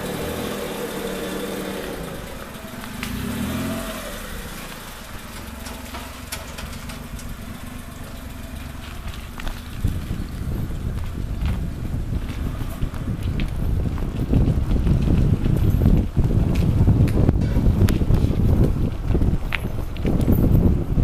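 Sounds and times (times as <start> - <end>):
vehicle engines idling: 0.0 - 21.0
wind buffeting microphone: 1.6 - 21.0.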